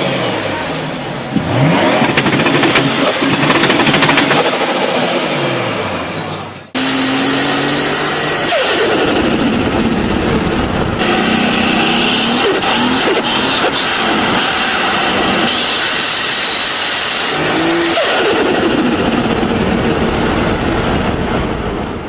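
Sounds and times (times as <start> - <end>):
turbocharged car engine revving: 0.0 - 21.7.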